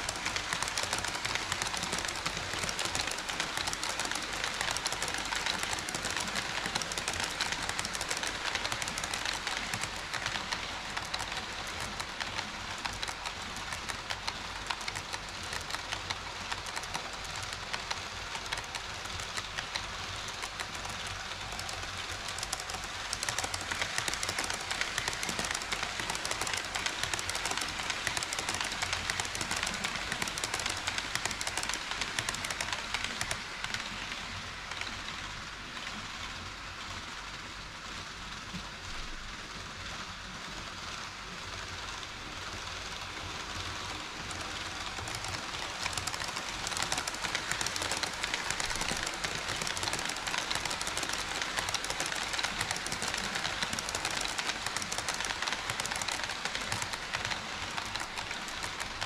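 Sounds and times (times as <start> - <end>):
model train wheels clattering: 0.0 - 37.1, 37.9 - 59.0.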